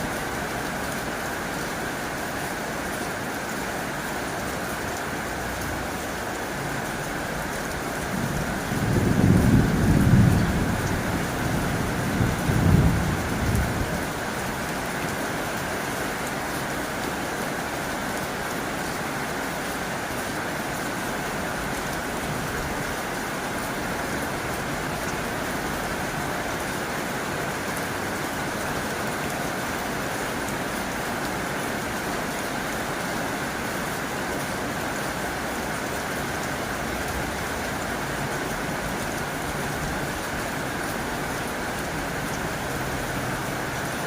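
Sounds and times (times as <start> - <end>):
heavy rain on a tin roof: 0.0 - 44.0.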